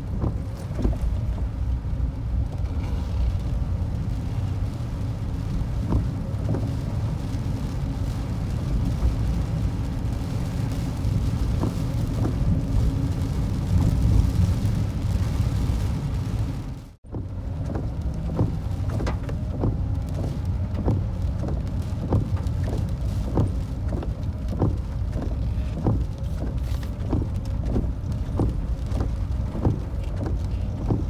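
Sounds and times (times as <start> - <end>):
rough seas: 0.0 - 31.0.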